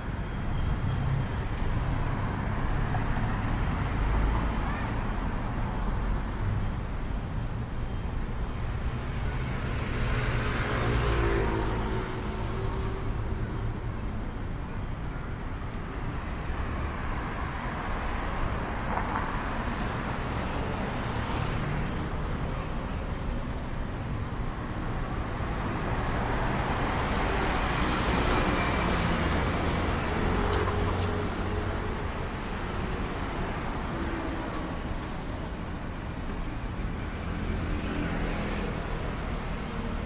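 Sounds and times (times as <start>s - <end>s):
road traffic noise: 0.0s - 40.0s
vehicles passing: 0.0s - 40.0s.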